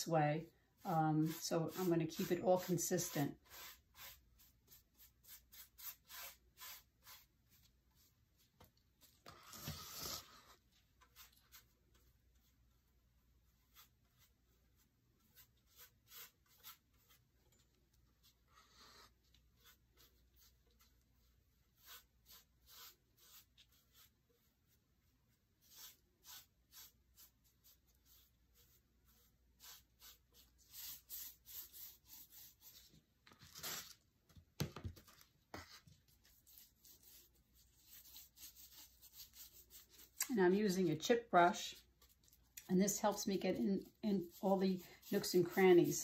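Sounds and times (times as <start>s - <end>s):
paint brush swishing strokes: 0.0s - 32.9s, 35.6s - 46.0s.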